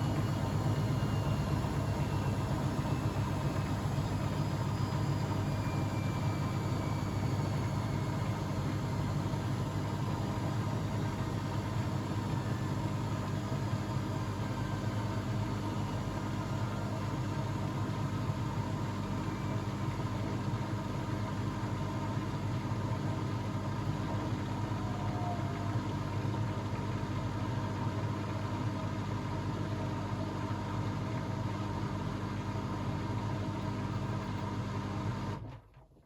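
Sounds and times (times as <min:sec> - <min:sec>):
washing machine humming: 0:00.0 - 0:35.7.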